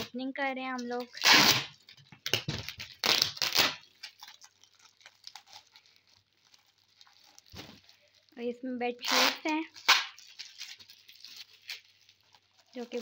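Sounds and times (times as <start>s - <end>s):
plastic crinkling: 0.0s - 13.0s
plastic wrapping ripping: 0.0s - 13.0s.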